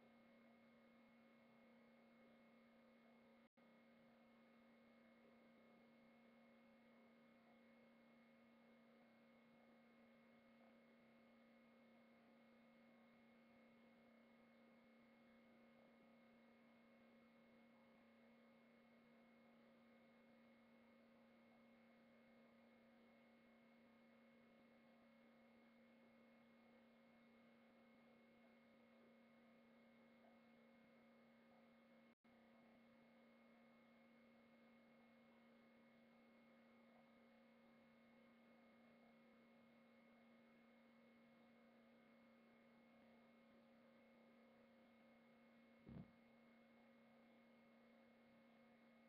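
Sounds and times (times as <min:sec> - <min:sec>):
faint electrical hum: 0:00.0 - 0:49.0.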